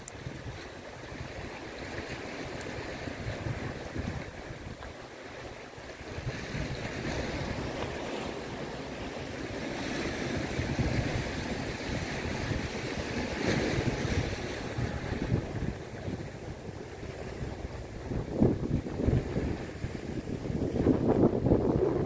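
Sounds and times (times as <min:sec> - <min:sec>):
small waves breaking on rocks: 0:00.0 - 0:22.0
wind buffeting microphone: 0:00.0 - 0:22.0.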